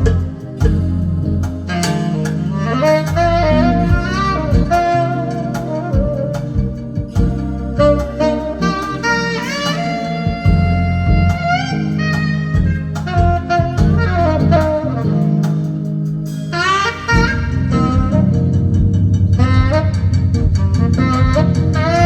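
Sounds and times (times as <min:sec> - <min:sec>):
jazz horn solo: 0:00.0 - 0:22.0
steady bass line: 0:00.0 - 0:22.0.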